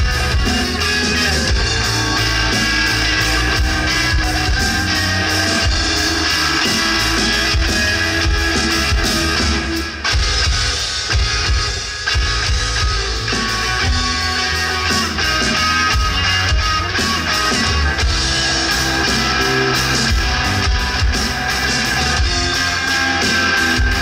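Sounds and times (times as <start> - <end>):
bass guitar: 0.0 - 24.0
drums: 0.0 - 24.0
electric guitar: 0.0 - 24.0.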